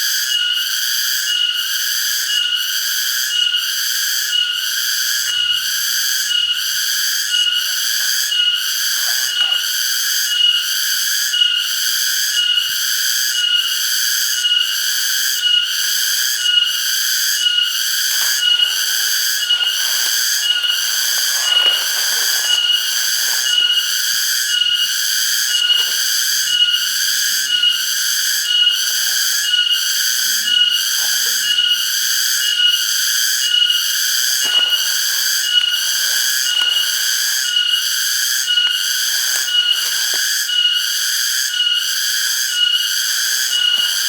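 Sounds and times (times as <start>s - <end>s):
cicadas buzzing: 0.0s - 44.0s.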